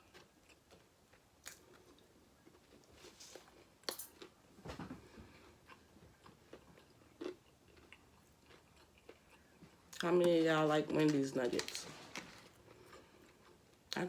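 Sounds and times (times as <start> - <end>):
person chewing food: 0.0 - 4.4, 5.0 - 14.0.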